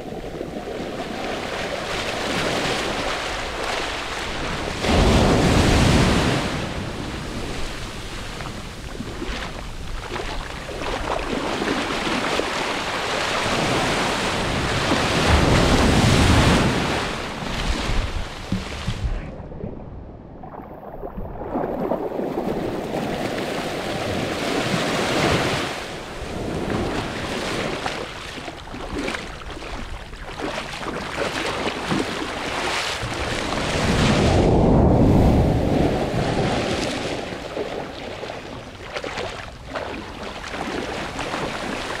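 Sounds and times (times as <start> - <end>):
small waves washing on sand: 0.0 - 19.3, 21.4 - 42.0.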